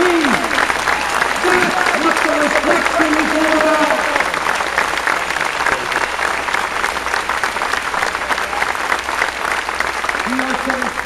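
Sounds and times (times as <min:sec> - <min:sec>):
large crowd applauding: 0:00.0 - 0:11.0.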